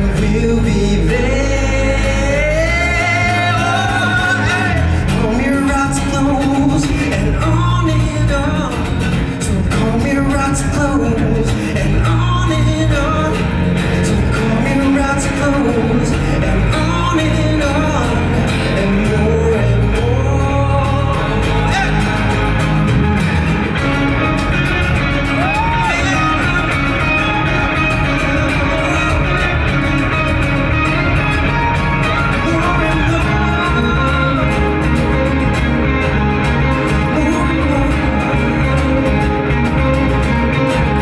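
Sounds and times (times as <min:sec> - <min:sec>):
live rock band playing: 0:00.0 - 0:41.0
person singing: 0:00.0 - 0:41.0.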